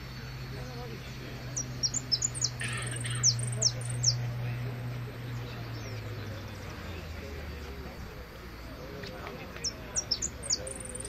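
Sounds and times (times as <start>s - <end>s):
finch singing: 0.0s - 7.7s, 8.5s - 11.0s
low hum: 0.0s - 9.0s.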